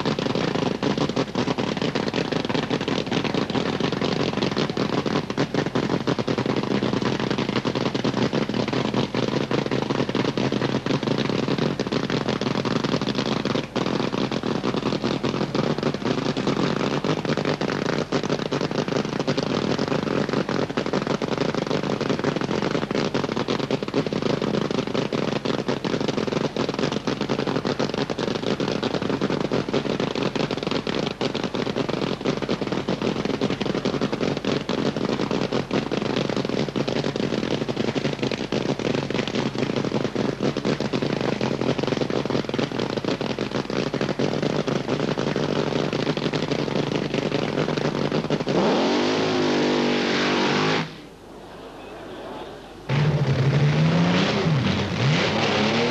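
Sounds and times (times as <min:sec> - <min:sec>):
dragster engine idling and revving: 0:00.0 - 0:51.1, 0:52.9 - 0:55.9.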